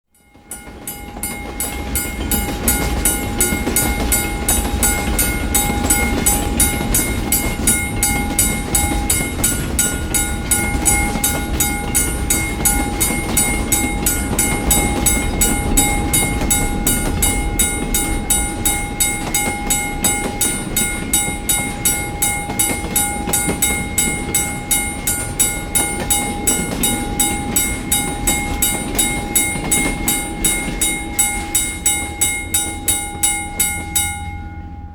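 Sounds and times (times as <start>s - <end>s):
railroad crossing bell ringing: 0.1s - 34.9s
train passing with low rumble: 0.2s - 34.9s.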